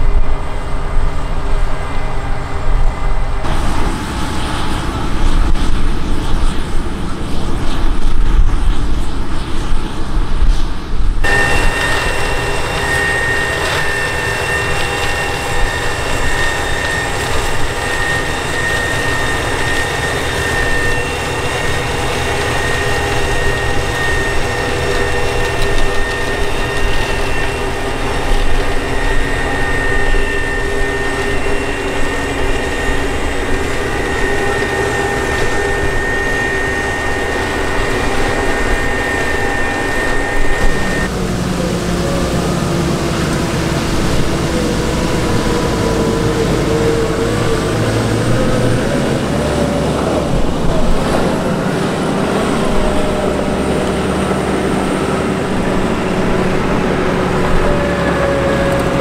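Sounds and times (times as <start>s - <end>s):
high-pitched whine: 0.0s - 59.0s
tractor engine rumble: 0.0s - 59.0s.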